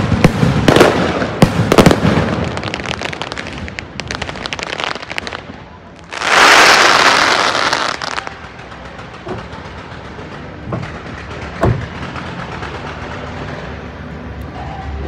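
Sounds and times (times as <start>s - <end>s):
fireworks booms: 0.0s - 13.8s
fireworks crackling burst: 0.0s - 14.2s.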